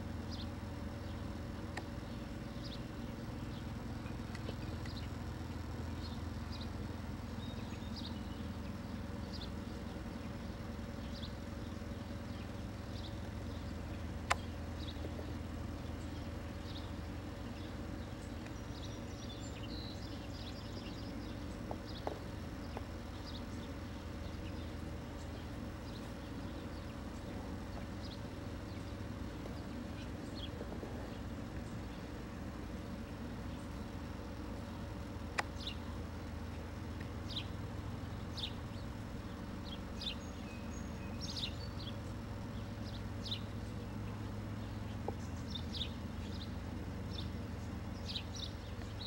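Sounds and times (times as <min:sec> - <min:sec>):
low outdoor hum: 0:00.0 - 0:49.0
faint bird chirps: 0:00.3 - 0:32.1, 0:32.8 - 0:49.0.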